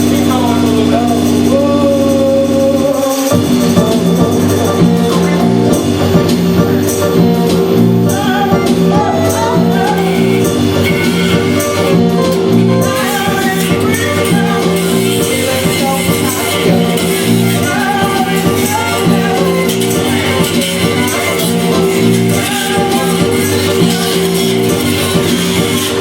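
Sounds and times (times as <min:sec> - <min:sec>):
held instrument notes: 0:00.0 - 0:26.0
person singing: 0:00.0 - 0:26.0
light percussion beat: 0:02.9 - 0:26.0.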